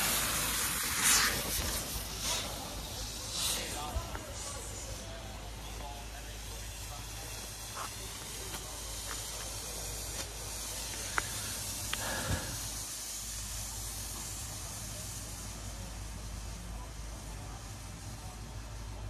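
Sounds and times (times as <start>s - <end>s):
smoke balls hissing: 0.0s - 19.0s.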